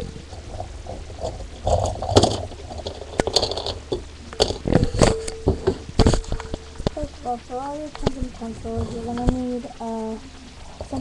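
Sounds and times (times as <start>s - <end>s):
rustling and scraping: 0.0s - 7.0s, 7.8s - 9.6s.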